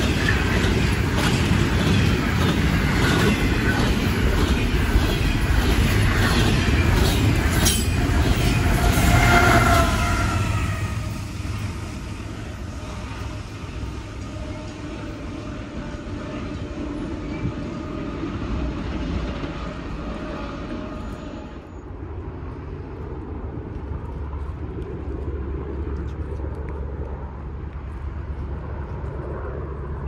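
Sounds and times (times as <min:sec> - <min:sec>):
distant freight train rumble: 0:00.0 - 0:30.0
steady rushing noise: 0:00.0 - 0:30.0.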